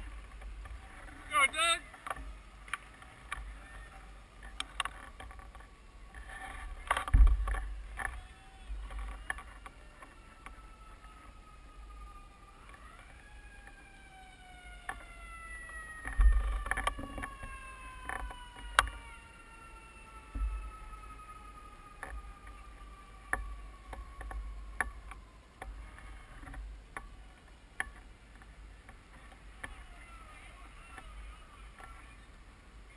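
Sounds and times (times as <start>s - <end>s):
distant siren wail: 0.0s - 27.4s, 29.1s - 32.3s.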